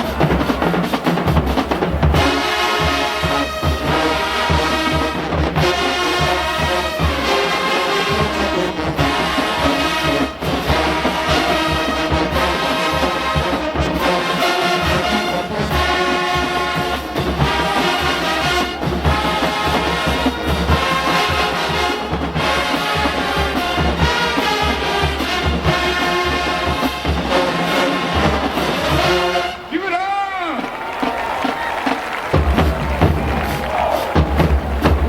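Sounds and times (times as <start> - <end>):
brass section playing: 0.0 - 35.0
drumline beat: 0.0 - 35.0.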